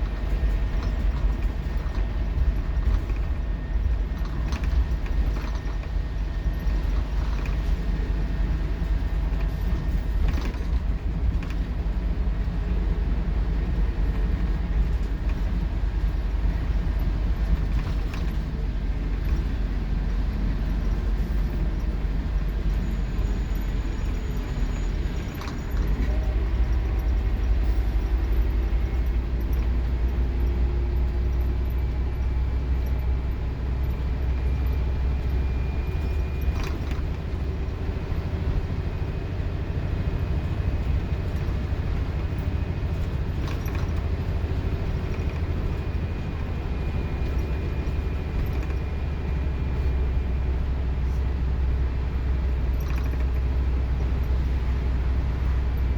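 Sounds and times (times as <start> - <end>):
bus body rattling and creaking: 0.0 - 55.9
bus engine rumbling under load: 0.0 - 55.9.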